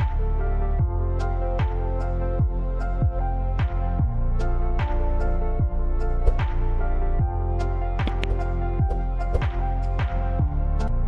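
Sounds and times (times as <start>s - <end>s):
soft electronic instrumental music: 0.0s - 11.0s.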